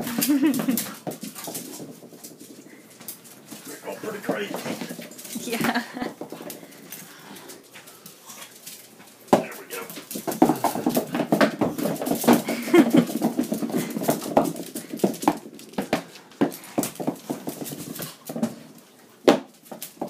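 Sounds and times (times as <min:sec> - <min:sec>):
toys and balls knocking: 0:00.0 - 0:07.0, 0:09.2 - 0:20.0
dog claws clicking on wood floor: 0:00.1 - 0:20.0.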